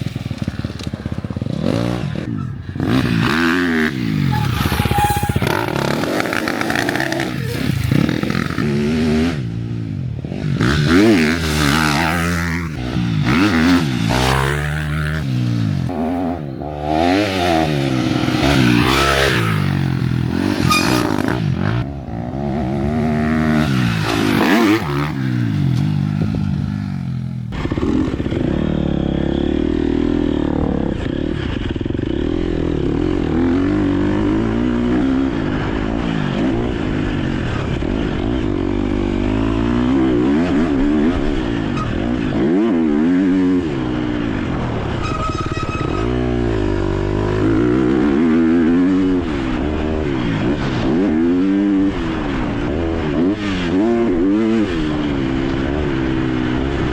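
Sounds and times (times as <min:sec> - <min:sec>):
motocross bike engine revving: 0:00.0 - 0:56.9.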